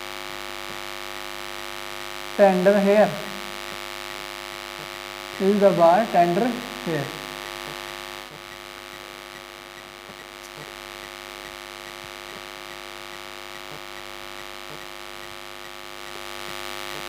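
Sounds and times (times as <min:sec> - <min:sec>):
electrical hum: 0:00.0 - 0:17.0
steady hiss: 0:00.0 - 0:17.0.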